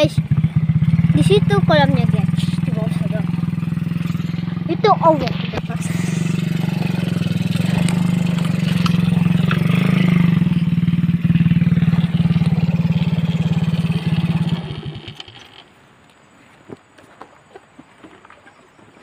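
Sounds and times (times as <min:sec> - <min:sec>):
small motorcycle engine running: 0:00.0 - 0:15.7.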